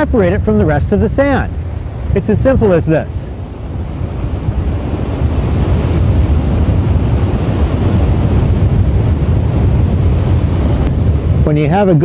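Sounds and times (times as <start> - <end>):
ocean surf rushing: 0.0 - 12.0
wind buffeting the microphone: 0.0 - 12.0.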